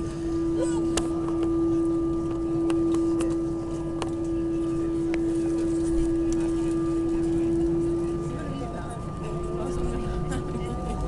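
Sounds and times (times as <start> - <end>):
jet engine drone in cabin: 0.0 - 11.0.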